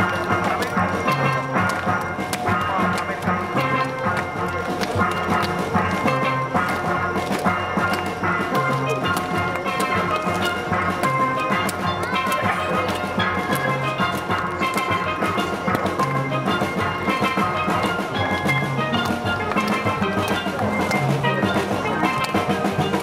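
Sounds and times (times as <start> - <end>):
steel pan band playing: 0.0 - 23.0.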